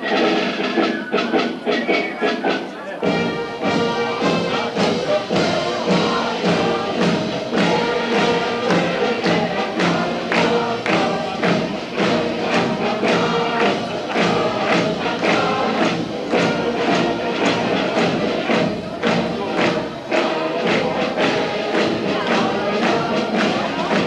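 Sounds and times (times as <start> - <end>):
music with group singing: 0.0 - 24.0.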